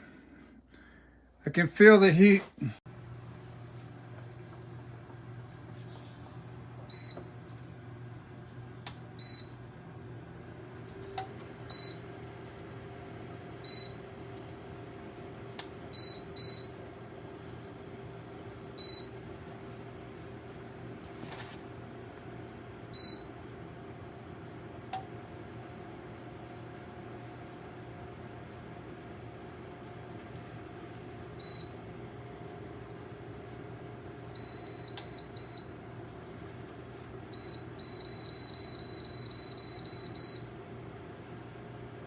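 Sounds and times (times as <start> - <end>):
heater fan hum: 0.0 - 42.0.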